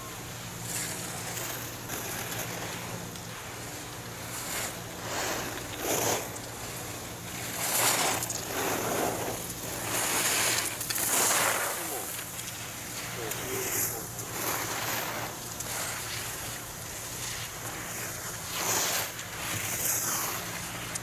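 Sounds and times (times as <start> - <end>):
skis scraping on snow: 0.0 - 21.0.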